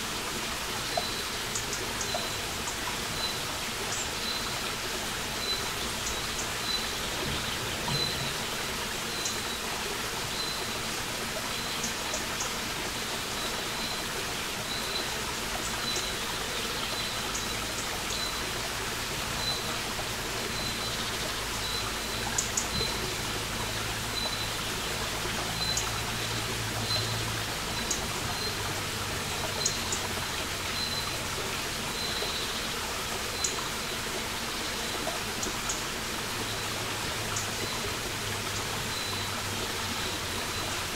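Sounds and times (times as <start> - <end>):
brook trickling over stones: 0.0 - 40.9.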